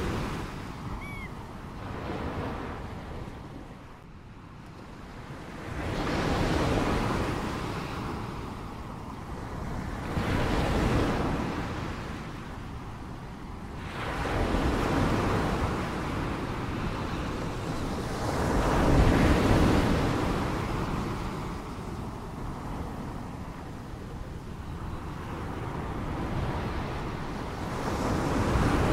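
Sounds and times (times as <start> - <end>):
ocean waves breaking: 0.0 - 4.0, 4.8 - 28.9.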